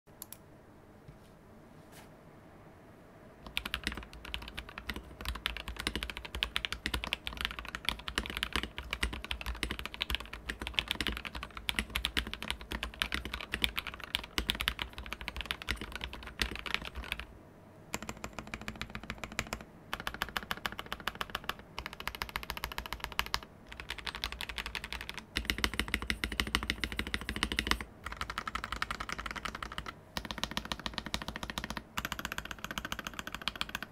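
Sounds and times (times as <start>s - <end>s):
mechanical keyboard typing: 3.4s - 17.3s, 17.9s - 33.9s.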